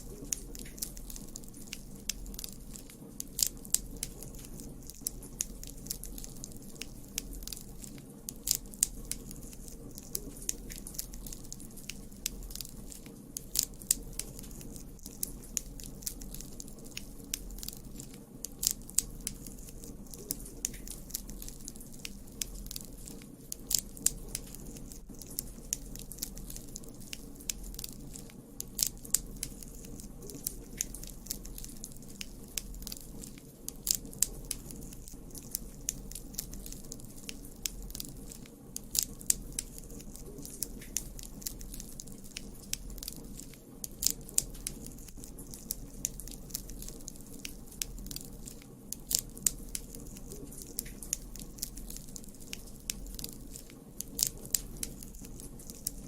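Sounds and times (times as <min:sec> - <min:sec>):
campfire crackling and popping: 0:00.0 - 0:56.0
low rumble of flames: 0:00.0 - 0:56.0.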